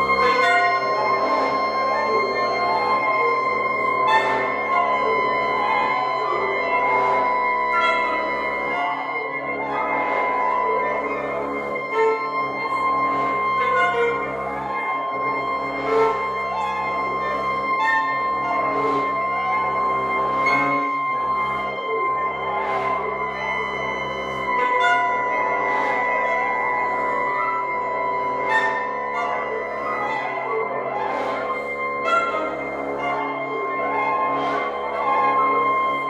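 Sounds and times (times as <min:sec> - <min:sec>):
wind ensemble chamber music: 0:00.0 - 0:36.0.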